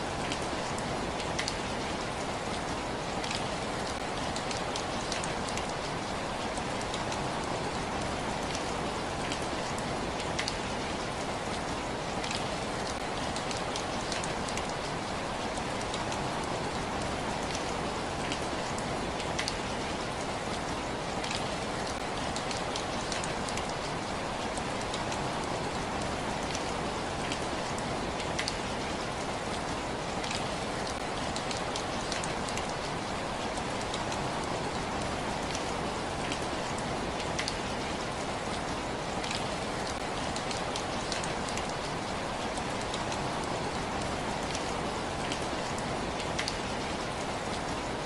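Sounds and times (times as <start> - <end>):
steady rain hissing: 0.0 - 48.0
raindrops ticking: 0.2 - 47.7.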